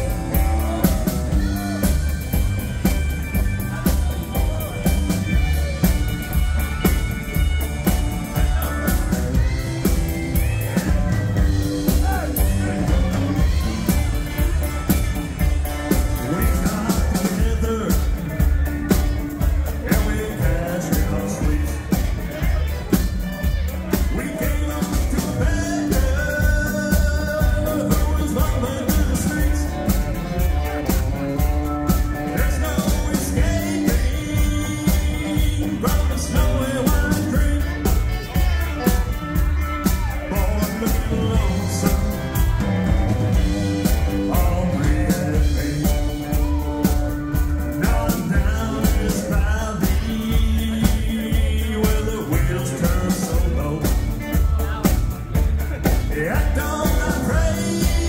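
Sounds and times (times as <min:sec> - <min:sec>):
live country band playing: 0:00.0 - 0:58.0.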